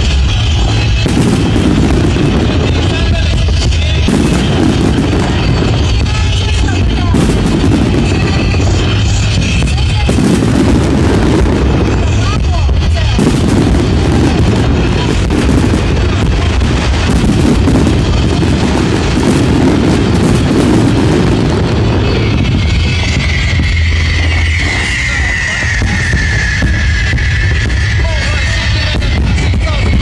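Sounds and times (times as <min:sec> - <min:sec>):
continuous low rumble: 0:00.0 - 0:30.0
fireworks booming and popping: 0:00.0 - 0:30.0.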